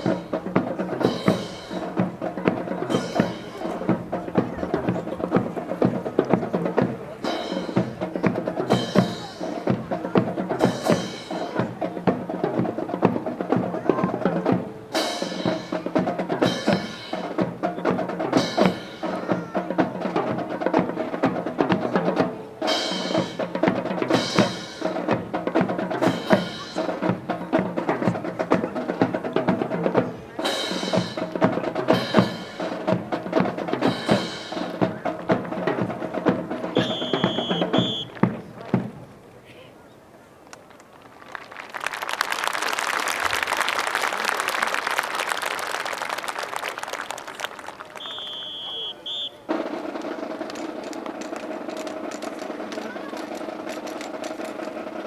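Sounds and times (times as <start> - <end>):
wood block clacks and drum strokes: 0.0 - 39.1, 49.1 - 55.0.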